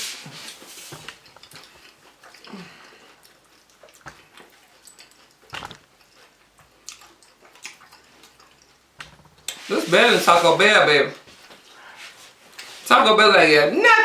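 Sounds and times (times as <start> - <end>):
people chewing: 0.3 - 10.4, 11.1 - 12.8.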